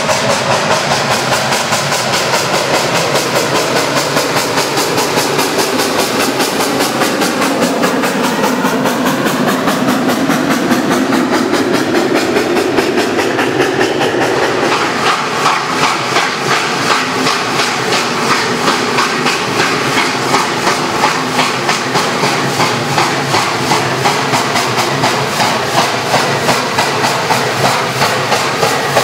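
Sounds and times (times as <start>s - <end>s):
steam locomotive chuffing: 0.0s - 29.0s
train wheels clicking over rail joints: 0.0s - 29.0s.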